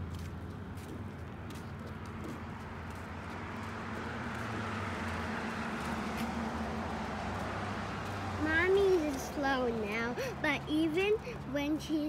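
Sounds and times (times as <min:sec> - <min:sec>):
vehicle engine hum and tyre noise: 0:00.0 - 0:12.0.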